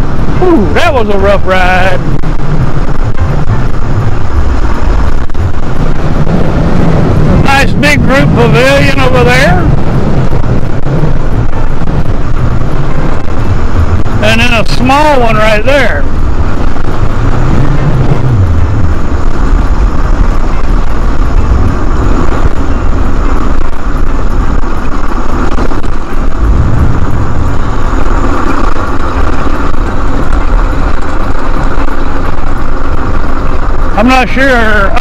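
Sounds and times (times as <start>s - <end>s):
mobility scooter rumbling on rough road: 0.0s - 35.0s.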